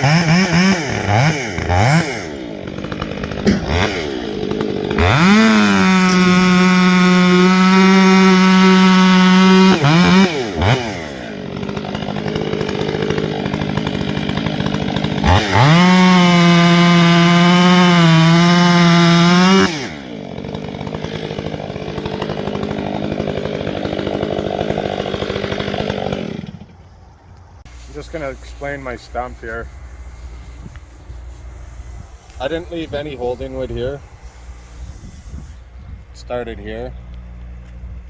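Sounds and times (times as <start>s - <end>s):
chainsaw revving and idling: 0.0s - 38.0s.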